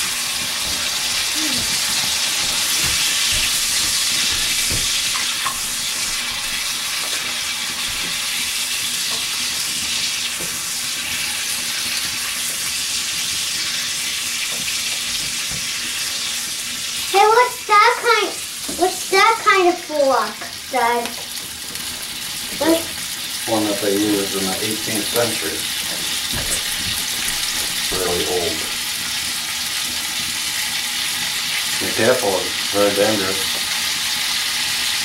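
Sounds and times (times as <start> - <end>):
meat sizzling over fire: 0.0 - 35.0.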